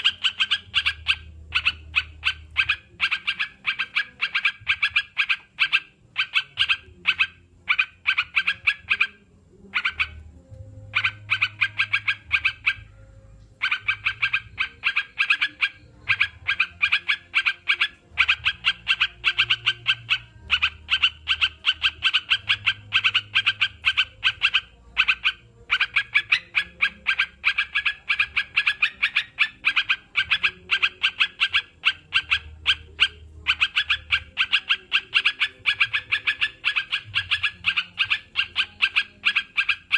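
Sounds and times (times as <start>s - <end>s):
bird chattering calls: 0.0s - 10.2s, 13.6s - 39.9s.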